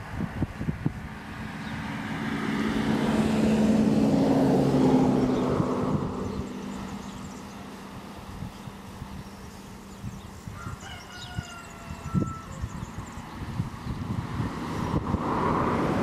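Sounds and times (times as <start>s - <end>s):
passing engine hum: 0.0s - 16.0s.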